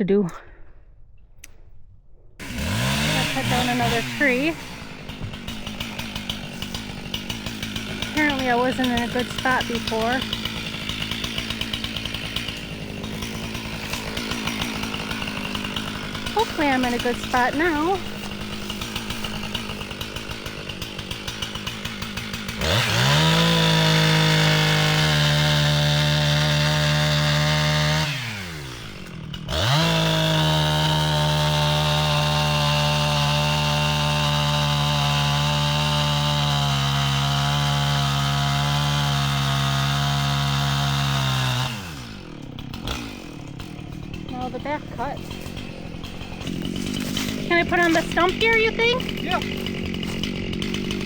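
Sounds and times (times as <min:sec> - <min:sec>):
chainsaw cutting into tree: 0:02.4 - 0:51.0
chainsaw idling: 0:02.4 - 0:51.0.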